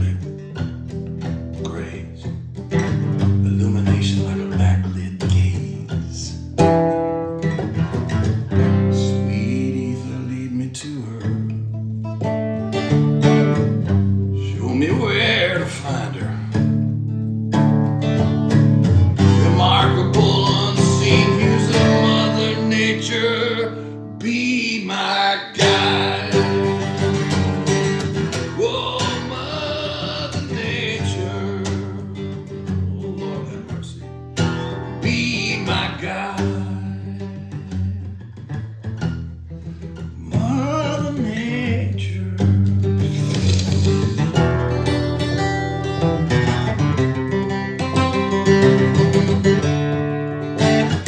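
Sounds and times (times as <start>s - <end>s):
guitar playing: 0.0s - 51.0s.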